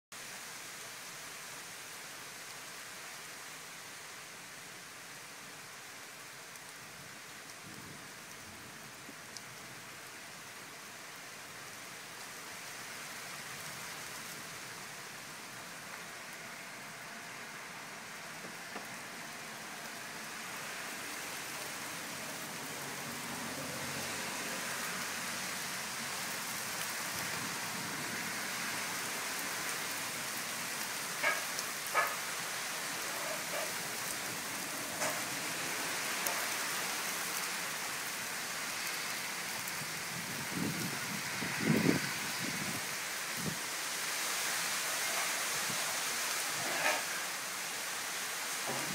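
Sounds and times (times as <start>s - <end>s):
rain on leaves: 0.1s - 48.9s.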